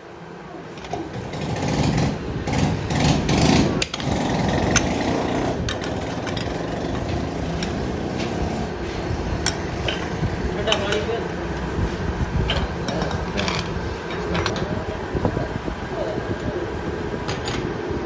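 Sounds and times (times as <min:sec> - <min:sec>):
workshop machinery running: 0:00.0 - 0:18.0.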